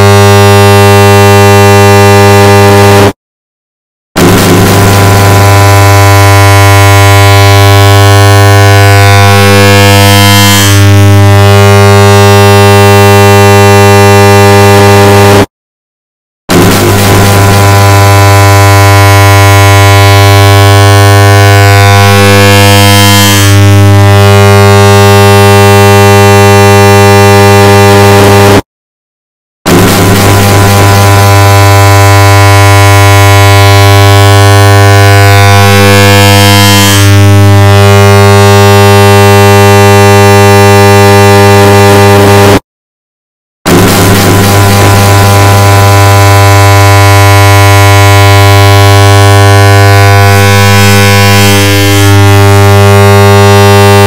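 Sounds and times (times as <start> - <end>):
distorted buzzing drone: 0.0 - 3.2, 4.2 - 15.5, 16.5 - 28.6, 29.7 - 42.6, 43.7 - 54.0.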